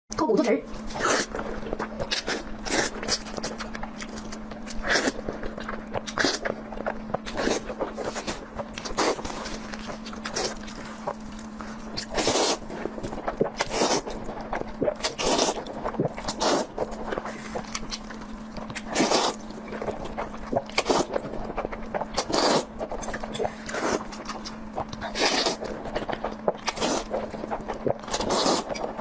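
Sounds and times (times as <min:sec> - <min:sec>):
chewing and crunching food: 0:00.1 - 0:29.0
faint steady hum: 0:00.1 - 0:29.0.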